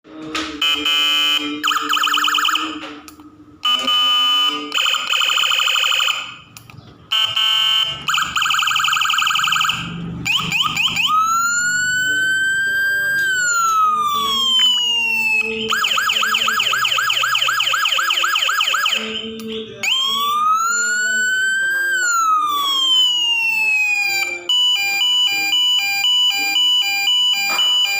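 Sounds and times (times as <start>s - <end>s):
electronic vehicle siren: 0.6s - 27.9s.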